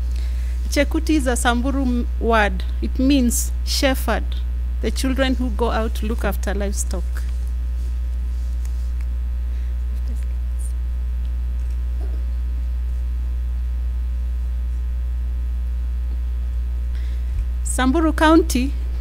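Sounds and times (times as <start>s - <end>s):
low electrical mains hum: 0.0s - 19.0s.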